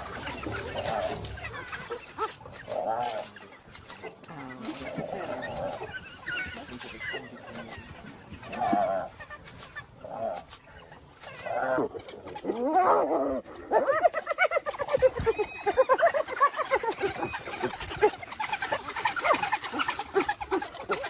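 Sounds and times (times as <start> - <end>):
wild dogs twittering chirps: 0.0 - 21.0.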